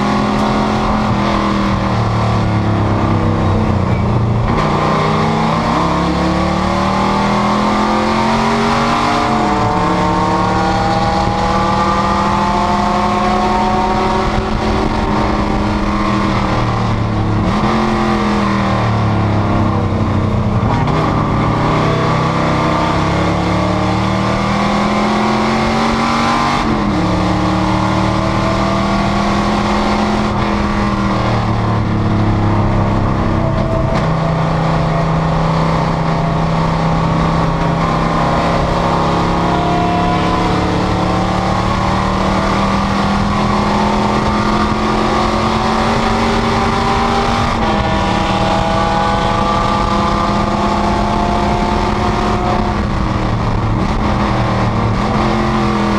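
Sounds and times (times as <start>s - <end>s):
race car engine accelerating: 0.0s - 55.9s.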